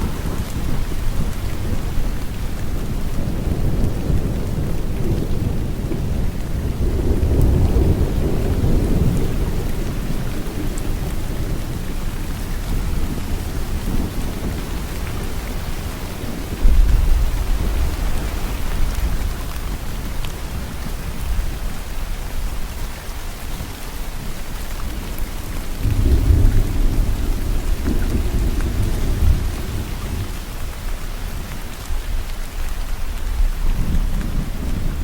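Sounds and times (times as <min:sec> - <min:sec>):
thunder rumbling: 0:00.0 - 0:22.2, 0:24.9 - 0:32.2
heavy rain: 0:00.0 - 0:35.0.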